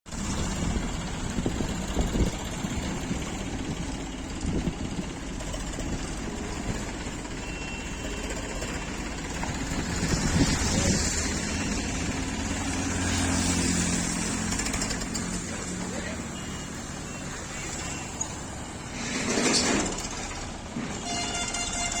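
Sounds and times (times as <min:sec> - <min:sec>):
tractor diesel engine running: 0:00.1 - 0:22.0.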